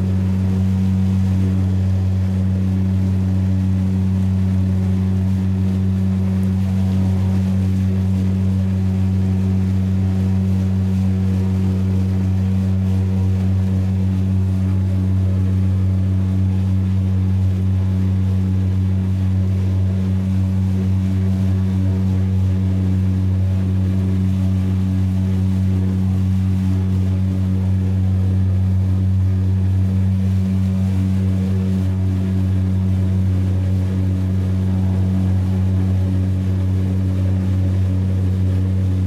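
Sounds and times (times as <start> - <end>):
engine running steady low hum: 0.0 - 39.0.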